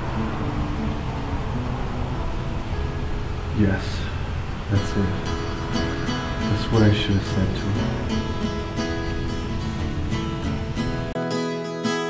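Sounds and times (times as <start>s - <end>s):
low rumble and hiss: 0.0s - 11.1s
faint soft music notes: 0.0s - 11.2s.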